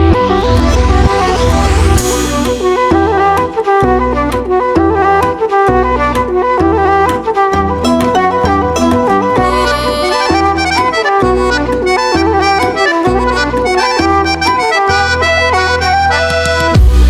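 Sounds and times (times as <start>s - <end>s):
accordion melody over bass beat: 0.0s - 17.0s.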